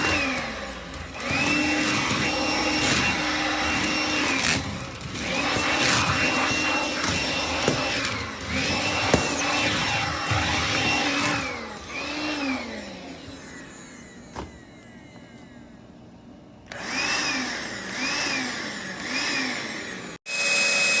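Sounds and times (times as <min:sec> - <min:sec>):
cordless vacuum motor whining: 0:00.0 - 0:21.0.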